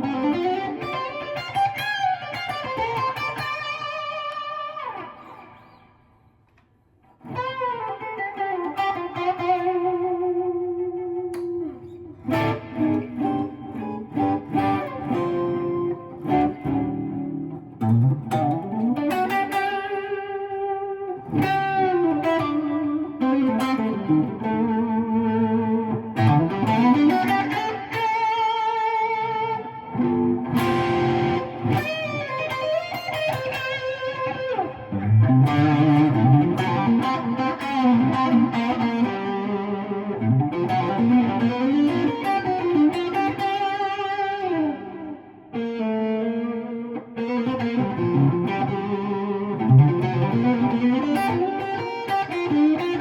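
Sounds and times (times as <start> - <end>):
overdriven electric guitar lead: 0.0 - 53.0.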